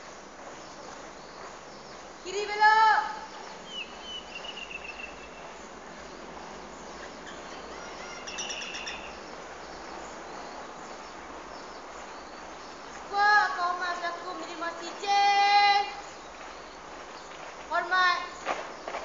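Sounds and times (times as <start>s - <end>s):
bird chirps: 0.0s - 19.0s
outdoor background noise: 0.0s - 19.0s.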